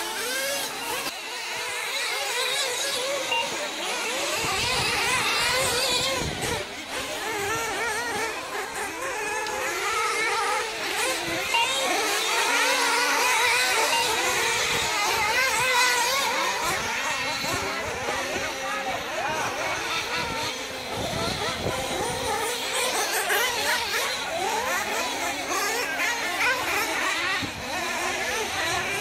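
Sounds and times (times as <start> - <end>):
rc car engines revving: 0.0 - 29.0.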